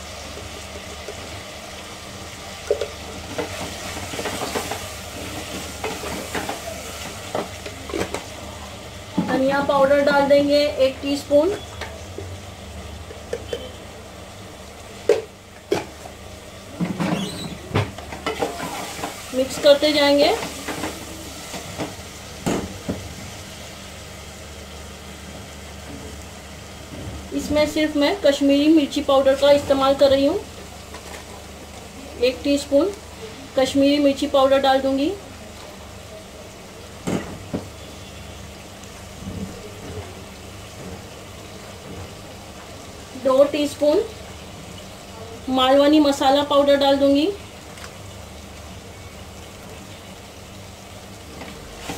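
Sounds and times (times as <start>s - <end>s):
food sizzling in oil: 0.0s - 51.9s.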